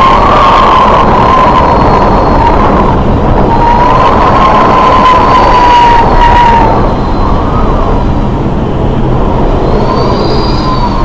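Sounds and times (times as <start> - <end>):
gale wind and spray rushing: 0.0 - 11.0
high wavering wind whistle: 0.0 - 11.0.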